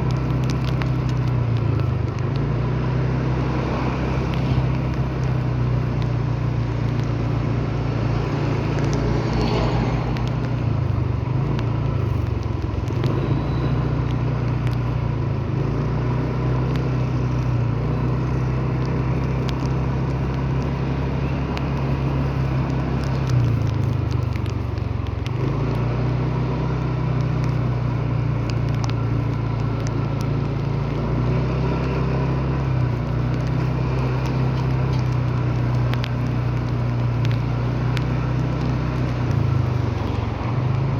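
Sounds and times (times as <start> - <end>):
faint ticks and crackles: 0.0 - 40.9
vehicle engine droning: 0.0 - 40.9.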